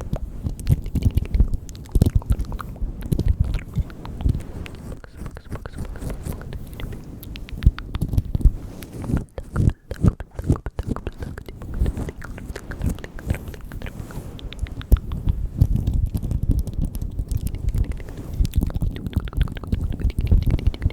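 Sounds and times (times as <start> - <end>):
wet mouth clicks and smacks: 0.0 - 20.9.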